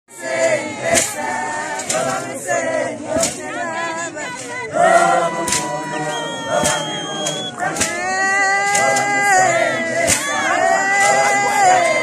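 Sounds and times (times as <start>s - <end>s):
crowd singing together: 0.1s - 12.0s.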